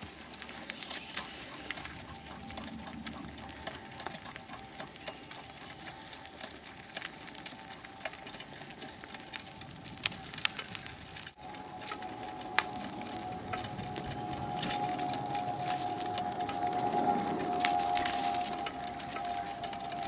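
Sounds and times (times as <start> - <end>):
cart wheels rolling on dirt: 0.0 - 20.0
small clicks and rattles: 0.0 - 20.0.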